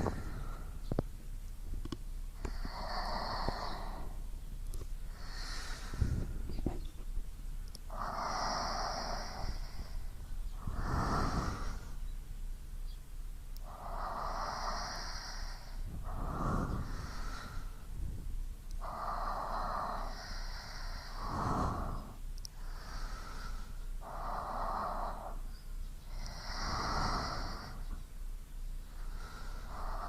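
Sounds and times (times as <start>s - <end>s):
person breathing slowly: 0.0s - 1.2s, 1.8s - 12.2s, 13.5s - 30.0s.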